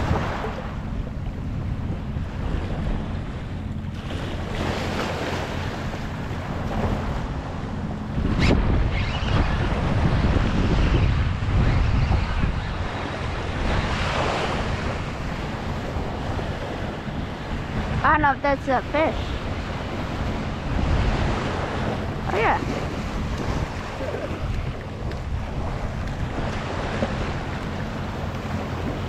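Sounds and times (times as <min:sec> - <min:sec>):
waves rushing: 0:00.0 - 0:29.0
wind buffeting microphone: 0:00.0 - 0:29.0.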